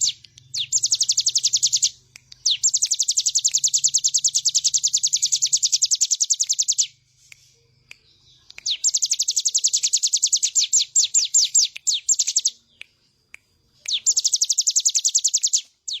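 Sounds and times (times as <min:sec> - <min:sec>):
bird singing rapid trills: 0:00.0 - 0:16.0.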